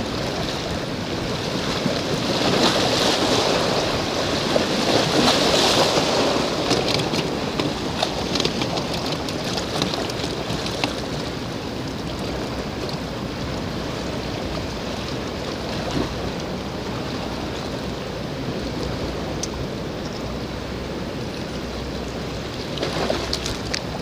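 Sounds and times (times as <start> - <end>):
sea surf: 0.0 - 24.0
wind: 0.0 - 24.0.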